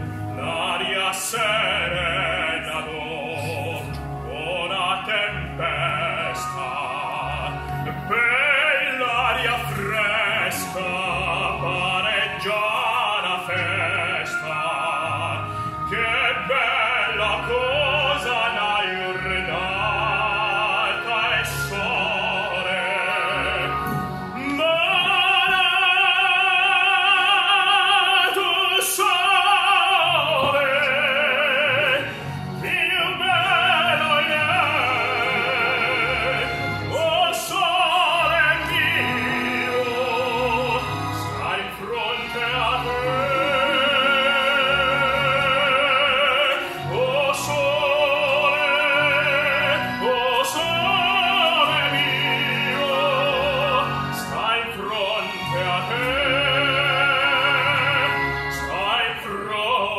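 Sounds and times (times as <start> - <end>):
man singing opera: 0.0 - 59.9.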